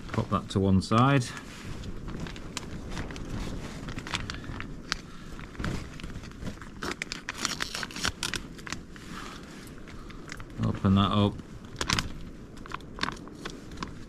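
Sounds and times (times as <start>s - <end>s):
foil pouch crinkling: 1.3s - 11.0s, 11.6s - 14.0s.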